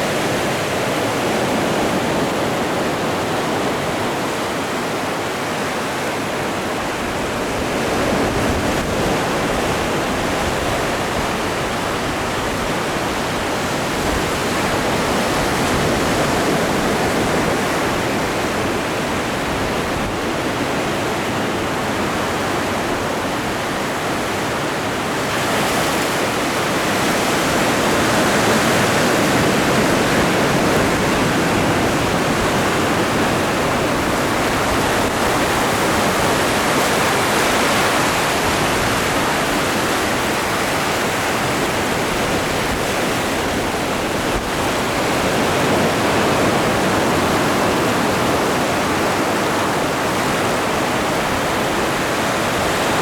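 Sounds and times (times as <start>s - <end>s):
ocean waves washing ashore: 0.0s - 53.0s.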